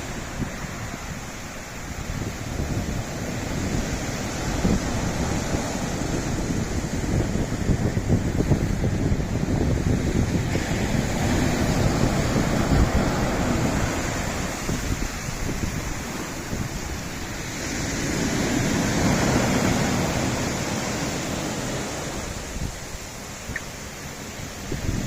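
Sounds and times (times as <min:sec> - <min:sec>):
waves washing on rocky shore: 0:00.0 - 0:25.0
wind buffeting microphone: 0:00.0 - 0:25.0.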